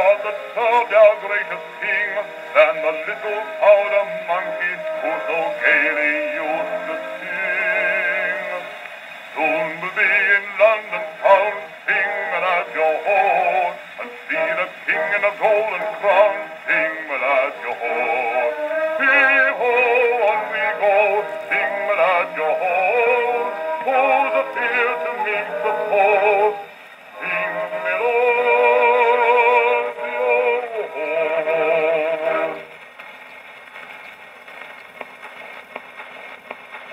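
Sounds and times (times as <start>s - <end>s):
bass singer on gramophone record: 0.0s - 32.8s.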